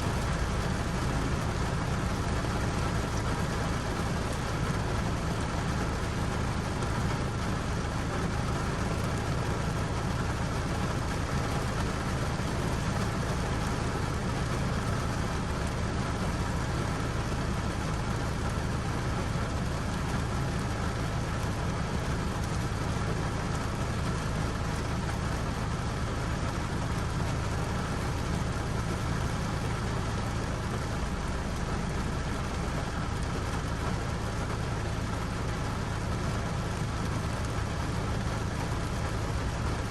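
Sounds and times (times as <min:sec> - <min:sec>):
low continuous rumble: 0:00.0 - 0:39.9
rain falling: 0:00.0 - 0:39.9.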